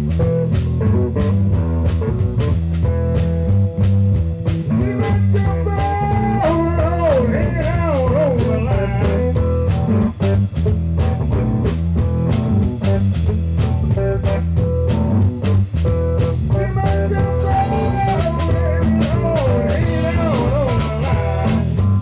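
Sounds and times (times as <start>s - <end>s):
bending lead guitar line: 0.0s - 22.0s
blues band playing: 0.0s - 22.0s.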